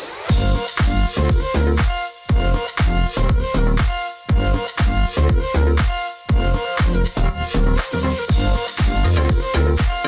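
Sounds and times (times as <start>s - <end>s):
house music with synth: 0.0s - 10.0s.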